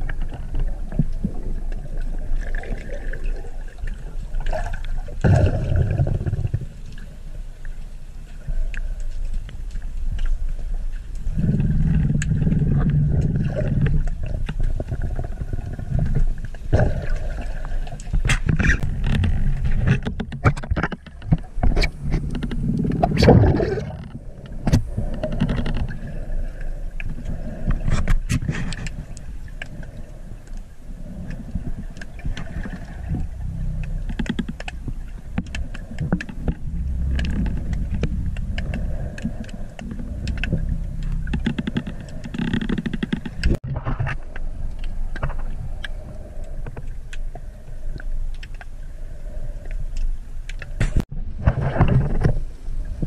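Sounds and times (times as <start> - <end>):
underwater rumble of moving water: 0.0 - 53.0
sharp clicks and crackles: 8.6 - 48.8, 49.6 - 52.4.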